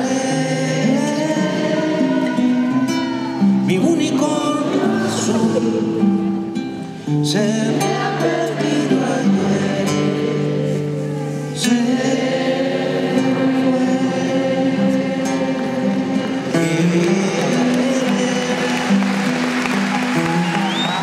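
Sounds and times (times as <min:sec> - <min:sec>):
man singing: 0:00.0 - 0:19.5
classical guitar strumming: 0:00.0 - 0:21.0.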